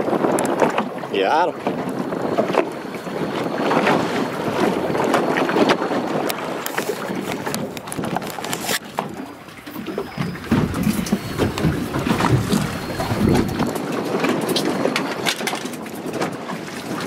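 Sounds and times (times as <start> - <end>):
small waves slapping against boat hull: 0.0 - 17.0
wind buffeting microphone: 0.0 - 17.0.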